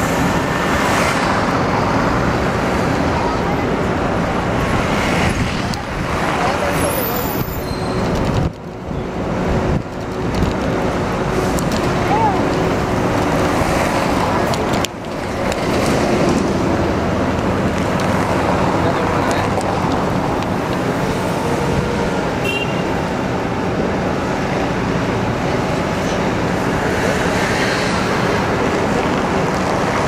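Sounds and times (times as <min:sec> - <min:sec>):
bus engine running: 0:00.0 - 0:30.0
city traffic: 0:00.0 - 0:30.0.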